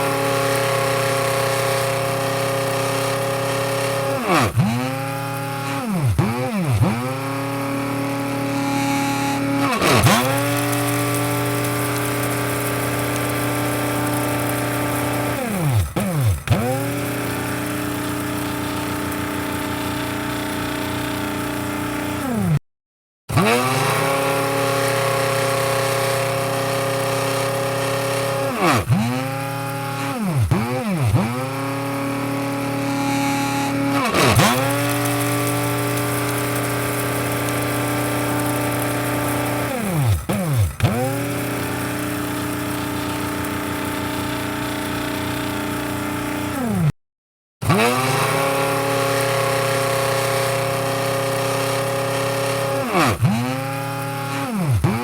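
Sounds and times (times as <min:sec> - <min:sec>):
coffee grinder motor whining: 0:00.0 - 0:22.6, 0:23.3 - 0:46.9, 0:47.6 - 0:55.0.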